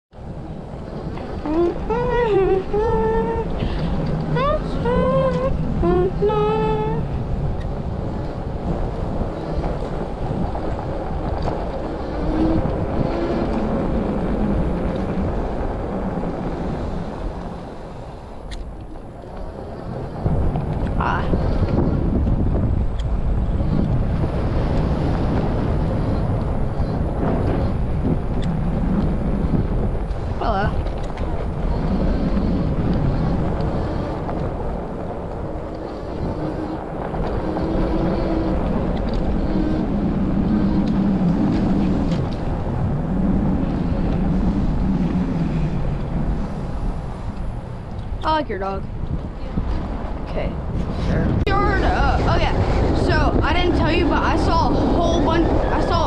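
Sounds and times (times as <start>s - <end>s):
low road noise rumble: 0.1s - 56.0s
wind rushing over microphone: 0.1s - 56.0s
faint steady hum: 0.2s - 48.9s.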